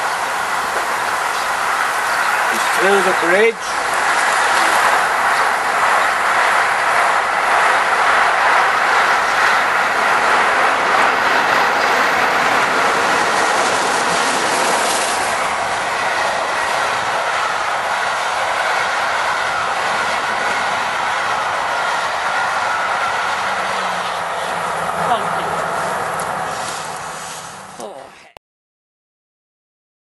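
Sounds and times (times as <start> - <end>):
train wheels rushing on rails: 0.0 - 28.0.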